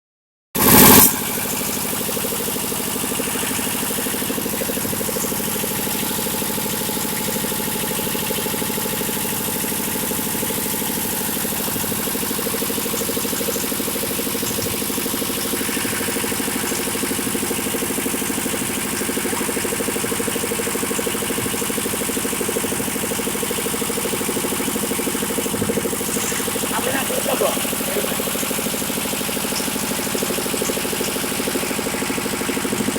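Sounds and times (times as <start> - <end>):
diesel generator running: 0.6 - 32.9.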